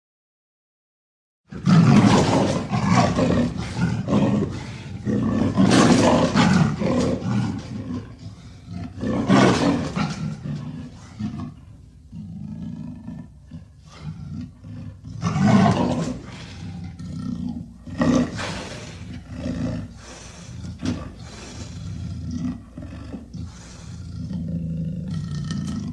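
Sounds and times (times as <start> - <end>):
leopard roaring: 1.5 - 25.9.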